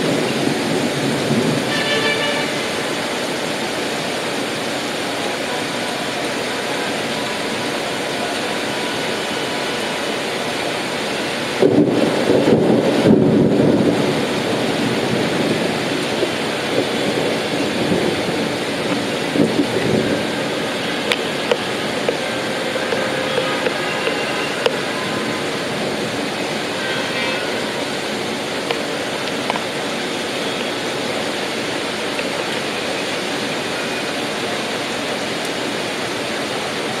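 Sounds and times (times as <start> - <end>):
rain pouring: 0.0 - 37.0.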